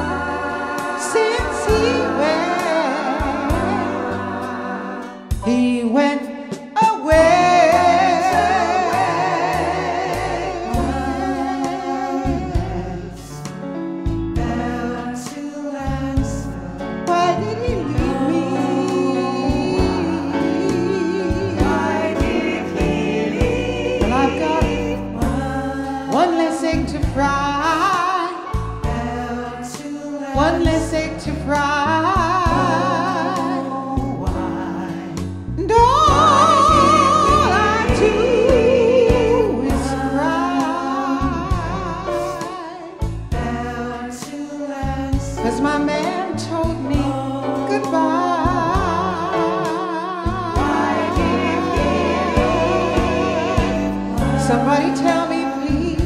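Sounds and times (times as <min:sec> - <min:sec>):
woman singing pop ballad: 0:00.0 - 0:13.5, 0:14.4 - 0:23.0, 0:24.0 - 0:52.5, 0:53.7 - 0:56.0
choir-like backing vocals: 0:00.0 - 0:56.0
instrumental accompaniment: 0:00.0 - 0:56.0.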